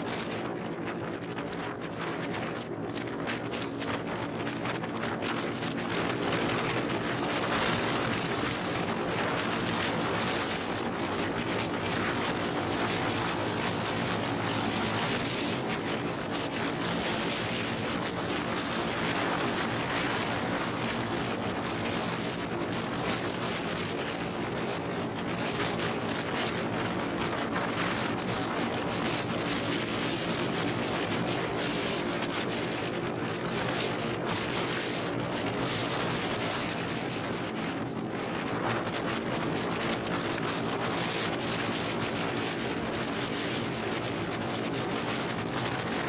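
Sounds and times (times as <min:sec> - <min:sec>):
wind noise on microphone: 0:00.0 - 0:46.0.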